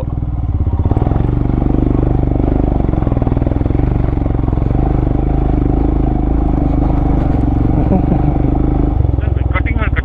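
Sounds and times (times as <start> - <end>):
vehicle engine running under load: 0.0 - 10.0.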